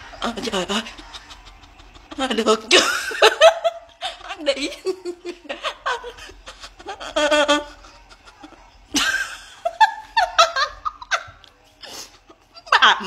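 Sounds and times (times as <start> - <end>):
woman laughing: 0.4 - 11.4.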